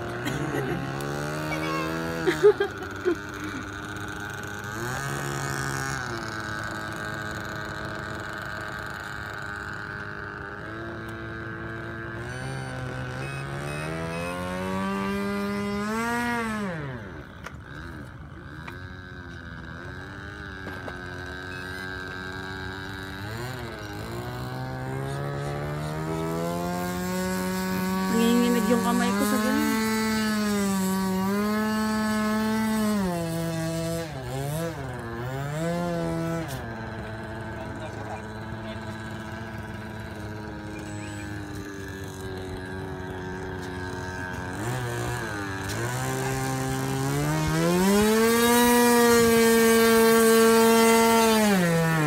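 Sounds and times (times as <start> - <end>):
model plane engine flying past: 0.0 - 52.0.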